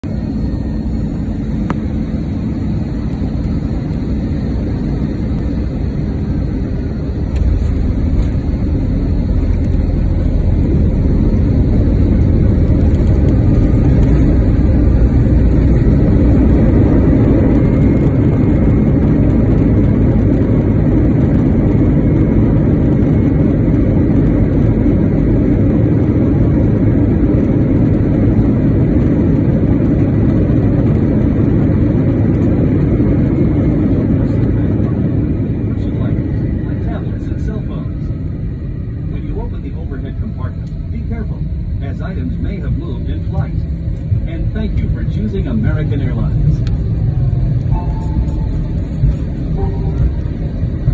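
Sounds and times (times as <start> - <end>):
aircraft cabin rumble on landing: 0.0 - 50.9.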